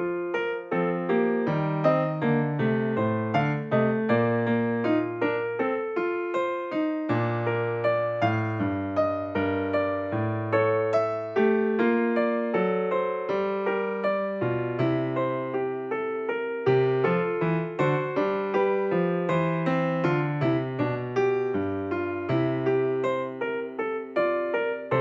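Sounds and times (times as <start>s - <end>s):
electric piano notes: 0.0s - 25.0s.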